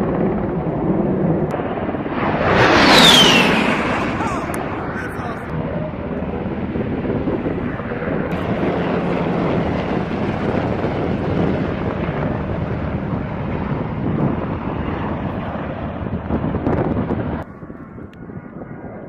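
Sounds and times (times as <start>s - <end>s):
aircraft engine rushing: 0.0s - 19.0s.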